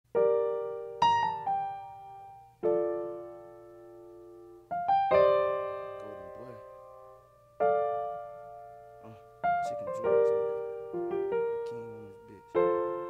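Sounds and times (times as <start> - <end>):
piano keyboard chords: 0.1 - 13.0.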